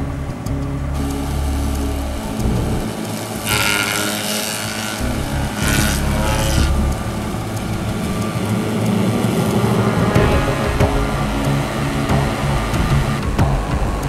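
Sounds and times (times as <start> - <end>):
vehicle engine running: 0.0 - 3.5, 5.0 - 14.0.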